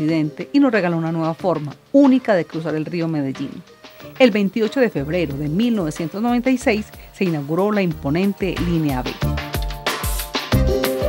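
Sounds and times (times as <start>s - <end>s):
background music with drum beat: 1.2s - 11.0s.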